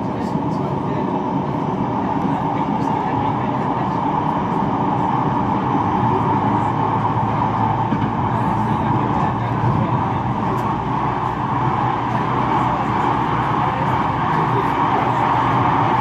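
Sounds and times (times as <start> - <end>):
tram rumble and drone: 0.0 - 16.0.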